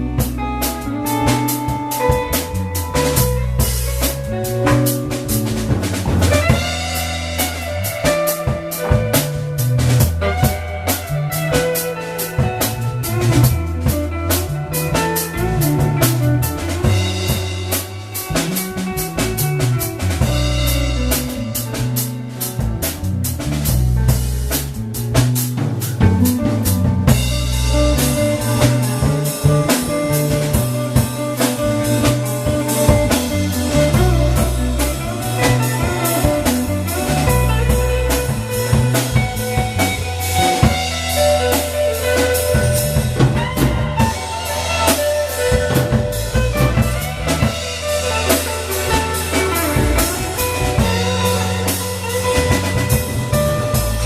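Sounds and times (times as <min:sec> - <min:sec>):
melodic lead lines: 0:00.0 - 0:23.2, 0:25.8 - 0:54.0
bass guitar groove: 0:00.0 - 0:54.0
blues band playing: 0:00.0 - 0:54.0
drum kit: 0:00.0 - 0:54.0.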